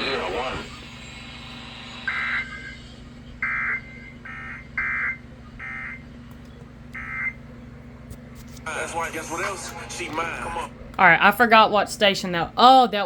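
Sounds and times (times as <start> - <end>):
low radio hum: 0.0 - 12.7.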